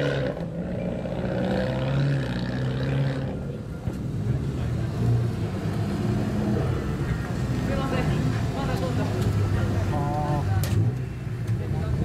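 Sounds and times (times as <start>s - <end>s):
car engines droning at low revs: 0.0s - 12.0s.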